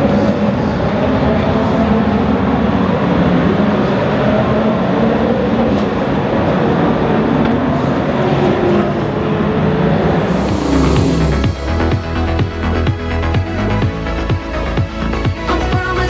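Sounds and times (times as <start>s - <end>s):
race car engines running: 0.0s - 13.9s.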